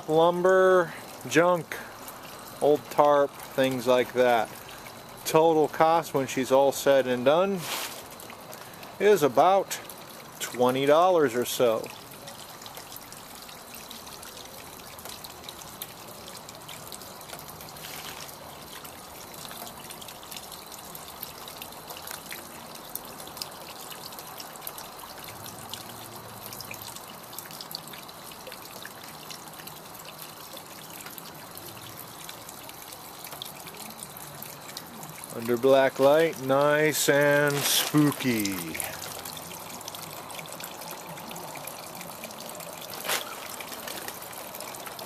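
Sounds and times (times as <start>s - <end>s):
fountain water trickling: 0.0s - 45.0s.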